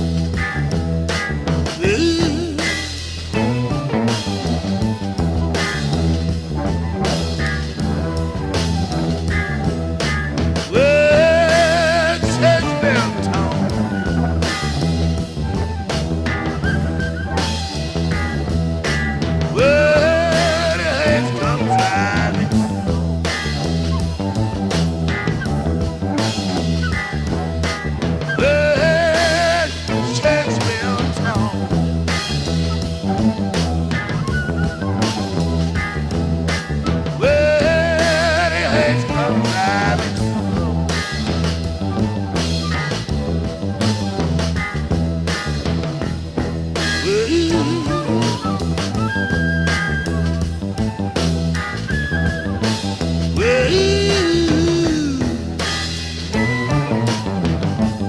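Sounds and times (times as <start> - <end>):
drums: 0.0 - 58.0
electric blues band playing: 0.0 - 58.0
electric guitars: 0.0 - 58.0.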